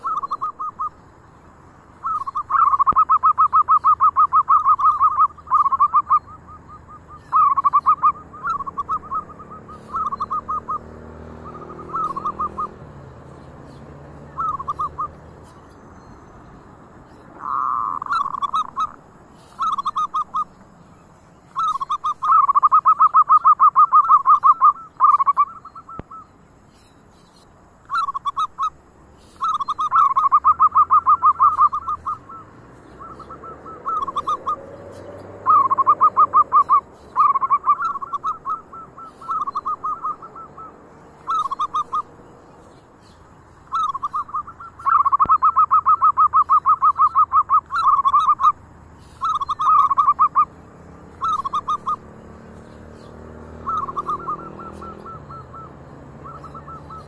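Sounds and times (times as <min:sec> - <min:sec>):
dove cooing: 0:00.0 - 0:01.0, 0:02.0 - 0:15.7, 0:17.0 - 0:20.6, 0:21.5 - 0:26.3, 0:27.9 - 0:42.4, 0:43.6 - 0:50.5, 0:51.1 - 0:57.0.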